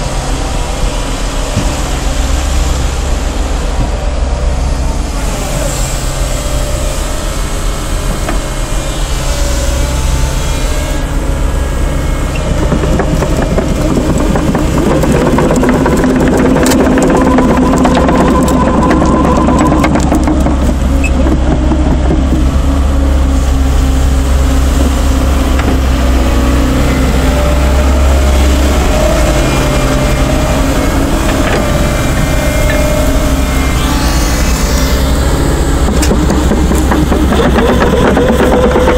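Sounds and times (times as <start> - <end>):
excavator diesel engine running: 0.0 - 38.9
steady whine: 0.0 - 38.9.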